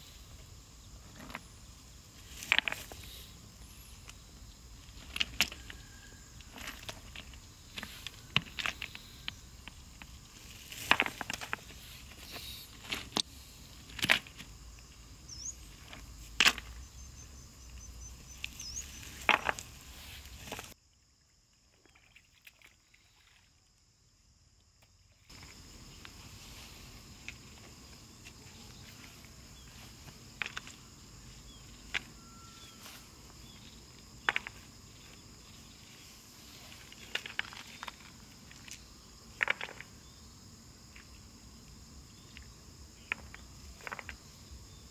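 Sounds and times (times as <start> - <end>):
insects calling: 0.0 - 44.9.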